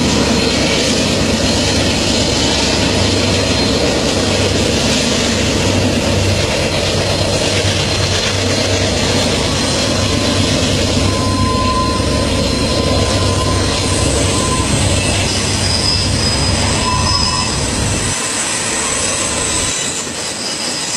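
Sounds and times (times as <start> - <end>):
high-pitched wheel squeal: 0.0 - 20.9
train wheels rumbling on rail: 0.0 - 20.9.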